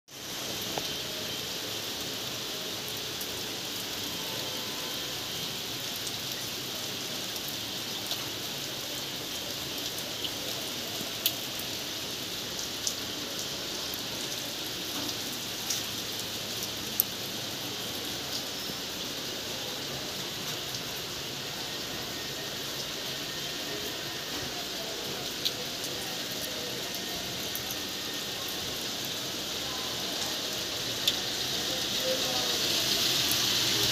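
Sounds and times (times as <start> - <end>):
rain hiss: 0.1 - 33.9.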